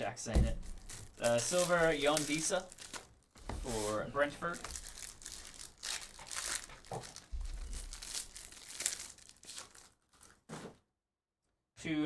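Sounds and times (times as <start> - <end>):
foil pack tearing and crinkling: 0.5 - 10.6.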